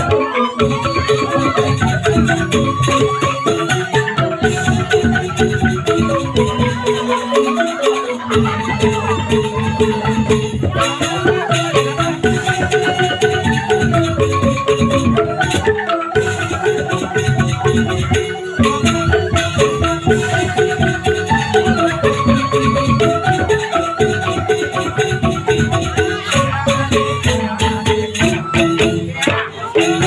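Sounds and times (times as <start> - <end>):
mallet percussion melody: 0.0 - 30.0
shaker: 0.0 - 30.0.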